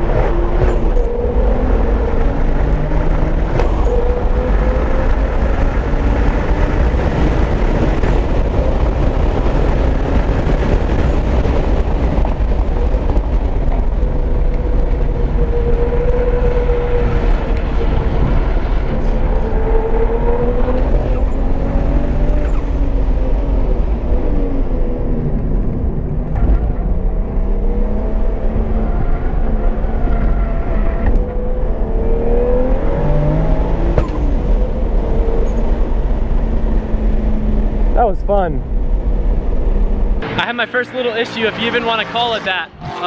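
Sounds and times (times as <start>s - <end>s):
car engine running hard: 0.0s - 43.0s.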